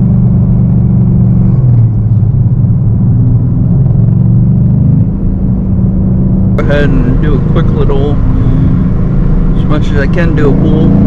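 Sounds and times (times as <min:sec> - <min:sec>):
car exhaust drone inside cabin: 0:00.0 - 0:11.0.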